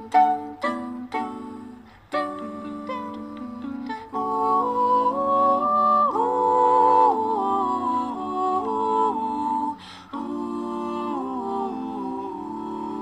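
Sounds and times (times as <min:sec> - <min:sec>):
slow melody of held notes: 0:00.0 - 0:13.0.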